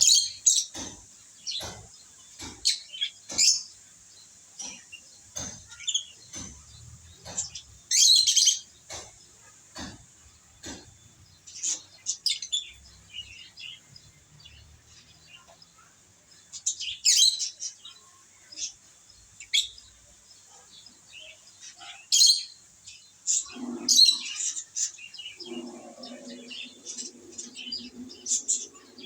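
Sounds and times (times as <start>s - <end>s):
lovebirds chirping: 0.0s - 29.0s.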